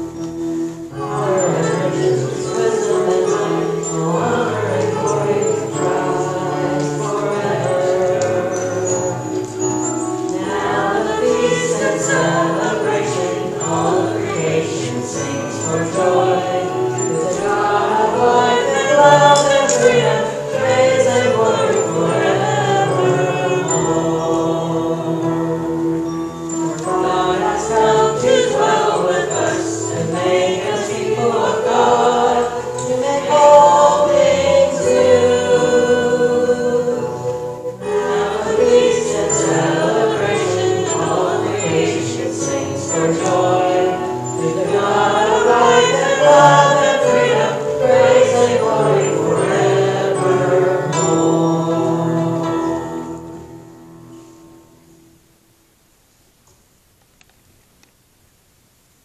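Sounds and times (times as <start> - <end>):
people singing a hymn: 0.0 - 54.3.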